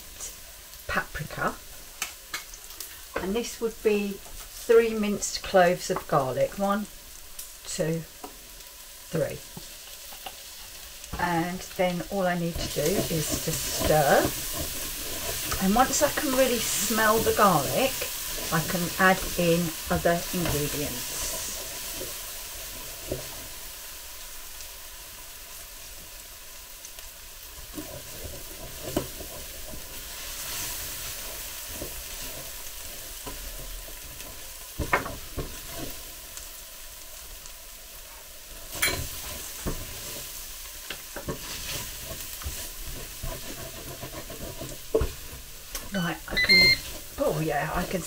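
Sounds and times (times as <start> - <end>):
bacon and onion sizzling: 0.0 - 48.0.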